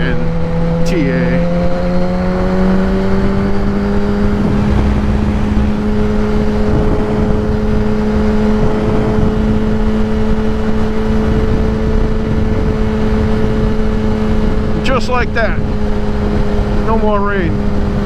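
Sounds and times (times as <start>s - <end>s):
motorcycle engine cruising: 0.0s - 18.0s
wind noise: 0.0s - 18.0s.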